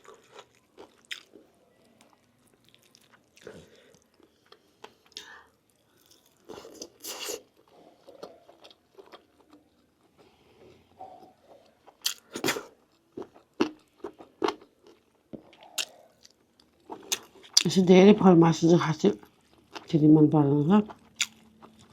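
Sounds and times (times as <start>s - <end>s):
person chewing meat: 0.0s - 17.7s, 19.2s - 19.9s, 20.9s - 21.9s.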